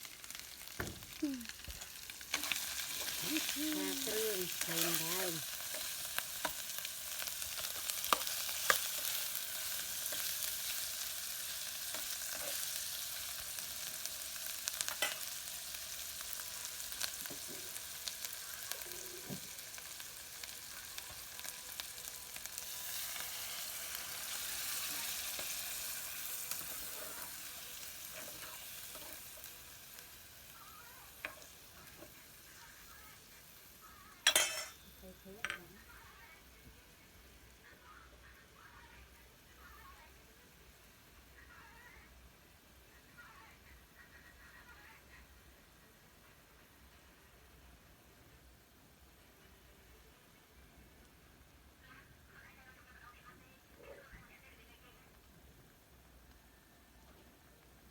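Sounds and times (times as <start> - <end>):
food sizzling in a pan: 0.0 - 57.9.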